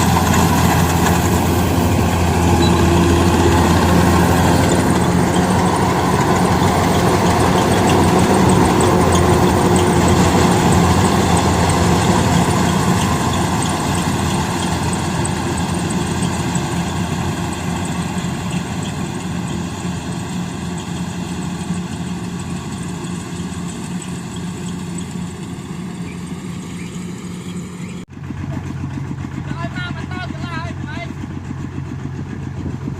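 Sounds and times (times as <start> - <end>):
farm machine engine humming: 0.0 - 32.9.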